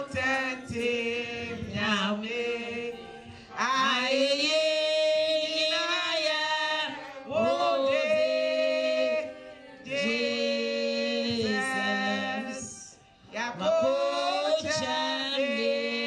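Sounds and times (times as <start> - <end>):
men and women singing unaccompanied: 0.0 - 16.0.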